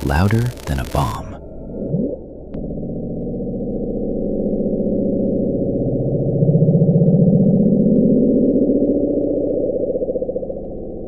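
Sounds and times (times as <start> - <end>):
low pulsing electronic rumble: 0.0 - 11.0.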